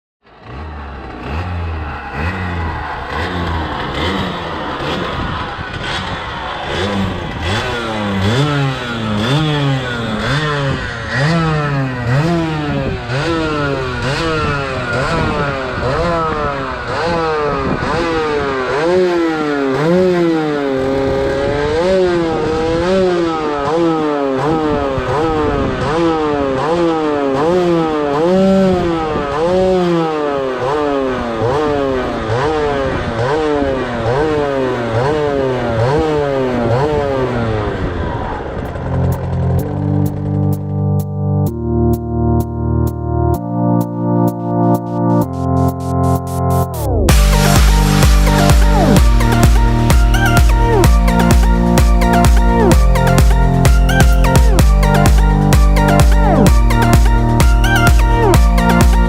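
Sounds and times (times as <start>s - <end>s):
two-stroke engine revving: 0.2s - 43.9s, 46.5s - 59.0s.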